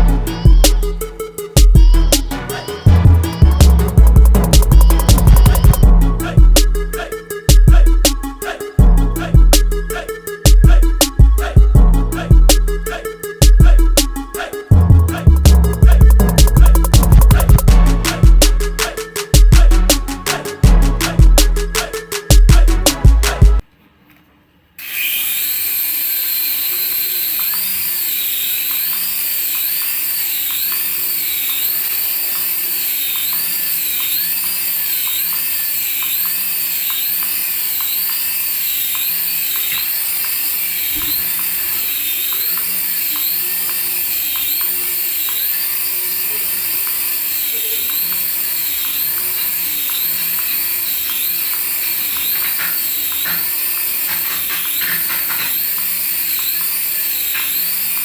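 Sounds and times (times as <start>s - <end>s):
small electric motor whining: 0.0s - 8.8s, 12.2s - 22.4s, 24.8s - 58.0s.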